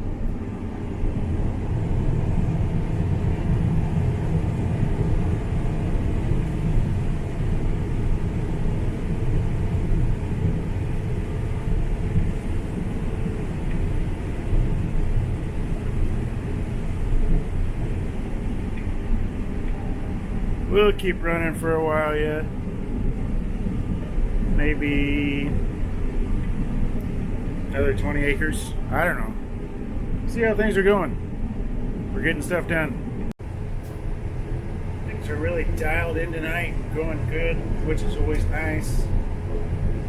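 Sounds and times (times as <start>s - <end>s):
combine harvester rumbling: 0.0s - 40.0s.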